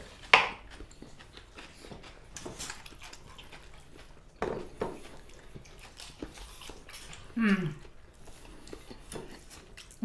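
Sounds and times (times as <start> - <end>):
fingers and food on plates: 0.0 - 10.0.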